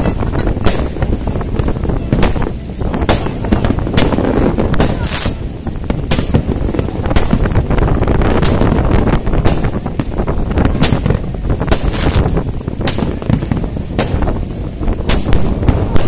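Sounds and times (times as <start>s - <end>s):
crowd voices: 0.0s - 16.0s
fireworks bursting with sharp bangs: 0.0s - 16.0s
wind rumble on microphone: 0.0s - 16.0s.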